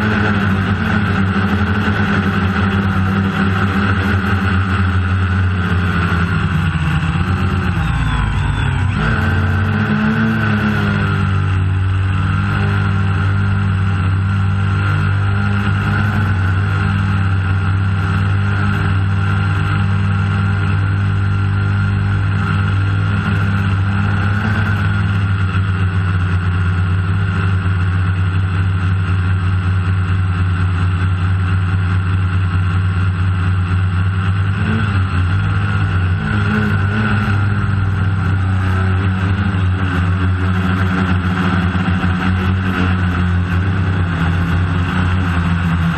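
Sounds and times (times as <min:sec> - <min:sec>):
drone propellers humming: 0:00.0 - 0:45.9.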